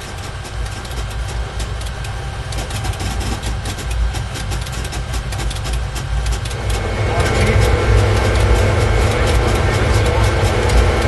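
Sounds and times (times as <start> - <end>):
jet engine rumble: 0.0 - 11.0
quick irregular ticks: 0.0 - 11.0.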